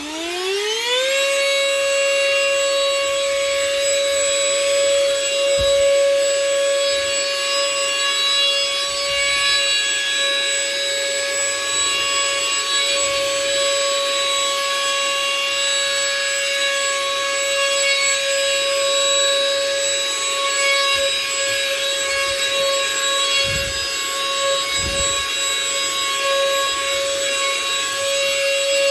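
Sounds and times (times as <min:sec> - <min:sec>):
vacuum cleaner motor whine: 0:00.0 - 0:28.9.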